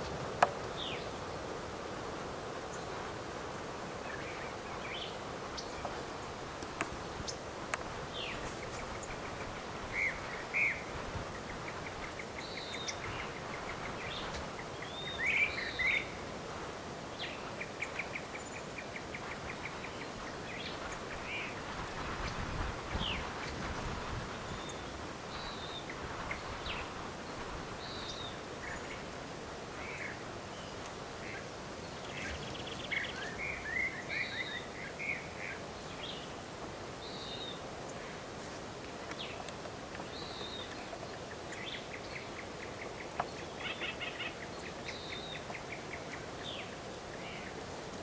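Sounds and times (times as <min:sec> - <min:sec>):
background hiss: 0:00.0 - 0:48.0
small birds chirping: 0:03.9 - 0:36.4, 0:37.0 - 0:48.0.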